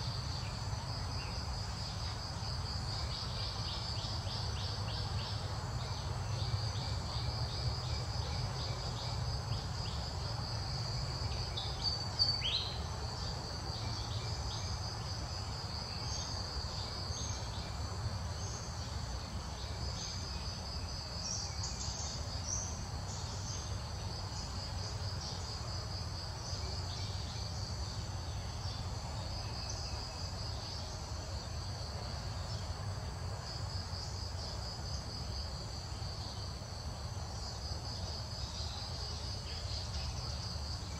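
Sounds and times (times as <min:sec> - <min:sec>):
insect chorus buzzing: 0:00.0 - 0:40.9.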